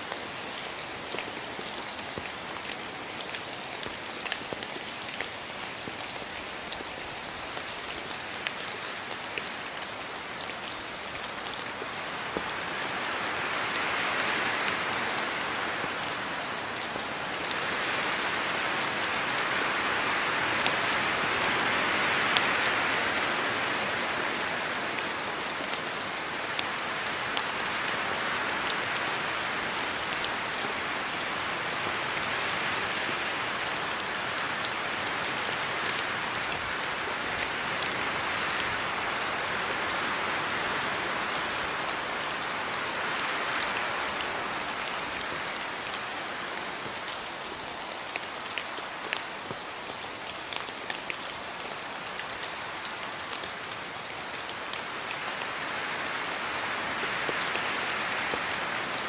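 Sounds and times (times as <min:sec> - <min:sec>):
raindrops ticking close by: 0:00.0 - 0:21.1, 0:22.1 - 0:59.0
steady rain falling: 0:00.0 - 0:59.0.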